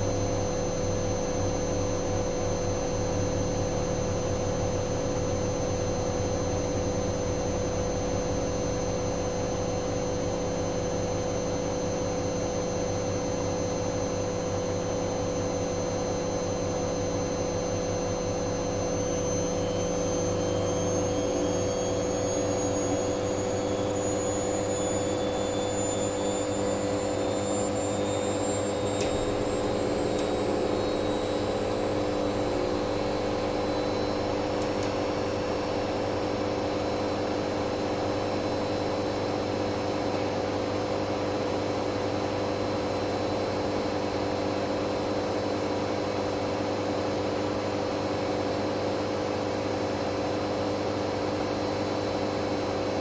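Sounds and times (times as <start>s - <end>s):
washing machine spinning: 0.0s - 46.4s.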